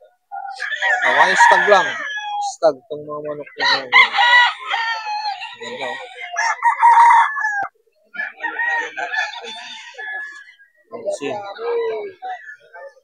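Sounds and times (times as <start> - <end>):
chicken clucking: 0.0 - 13.0
roosters crowing: 0.4 - 2.7, 3.3 - 13.0.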